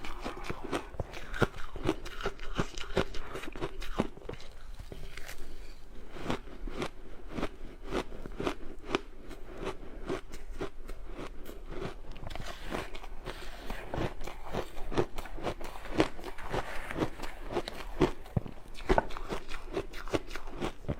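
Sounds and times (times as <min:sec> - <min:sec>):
ice being chewed: 0:00.0 - 0:20.9.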